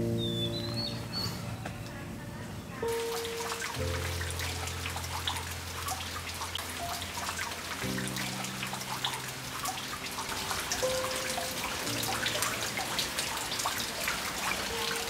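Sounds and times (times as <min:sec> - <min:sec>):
rain dripping: 0:00.0 - 0:15.0
soft background music: 0:00.0 - 0:15.0.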